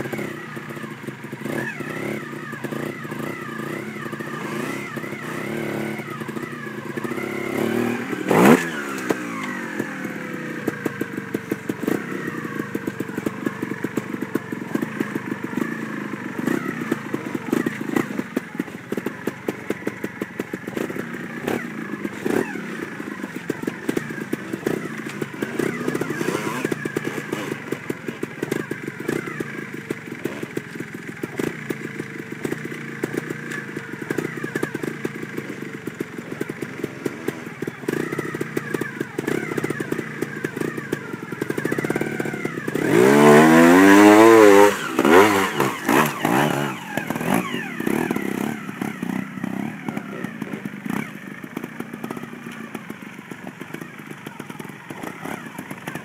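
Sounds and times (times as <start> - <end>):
motorcycle engine at low revs: 0.0 - 56.0.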